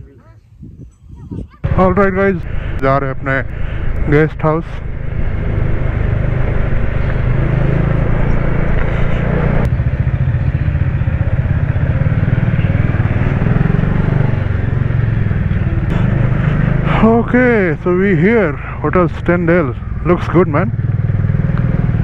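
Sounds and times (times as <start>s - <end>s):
motorcycle engine running: 1.6s - 22.0s.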